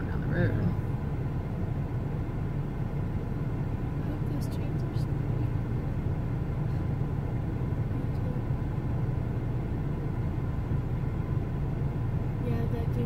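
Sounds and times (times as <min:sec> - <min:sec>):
engine rumble inside car: 0:00.0 - 0:13.0.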